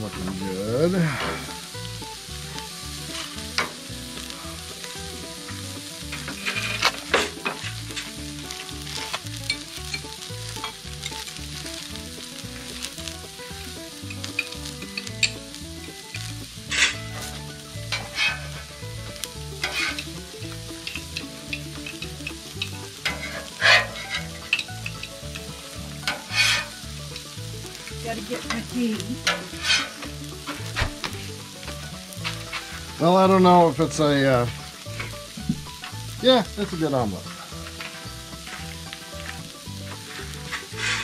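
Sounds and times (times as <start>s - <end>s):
utensil scraping a pan: 0.0s - 36.2s, 36.8s - 41.0s
omelet sizzling in a pan: 0.0s - 41.0s
soft background music: 0.0s - 41.0s.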